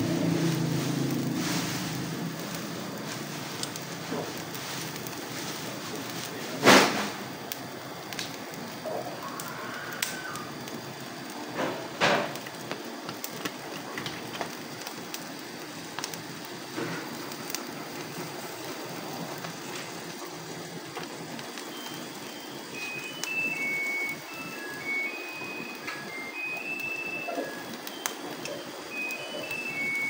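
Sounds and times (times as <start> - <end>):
gas burner hissing: 0.0 - 30.0
prawns sizzling on a grill: 0.0 - 30.0.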